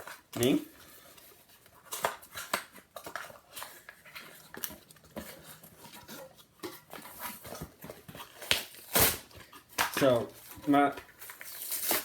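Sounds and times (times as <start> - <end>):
cardboard and plastic packaging rustling: 0.0 - 12.0.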